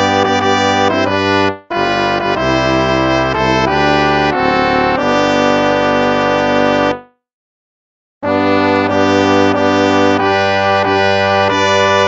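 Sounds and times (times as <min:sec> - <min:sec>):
brass hymn chords: 0:00.0 - 0:07.1, 0:08.2 - 0:12.0.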